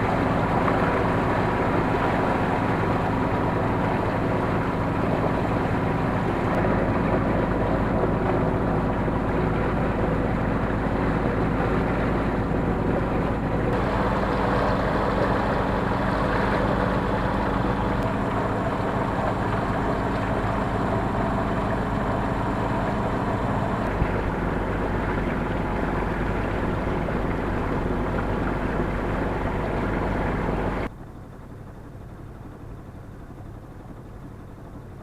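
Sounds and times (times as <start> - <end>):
water noise: 0.0 - 30.9
boat diesel engine running: 0.0 - 35.0
wind: 0.0 - 35.0.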